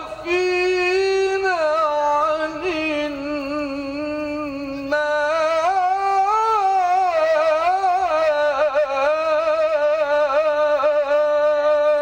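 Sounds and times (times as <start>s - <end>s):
man chanting into microphone: 0.0s - 12.0s.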